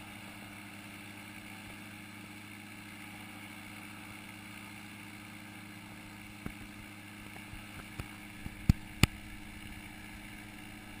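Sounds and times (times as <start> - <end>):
powered parachute engine droning: 0.0 - 11.0.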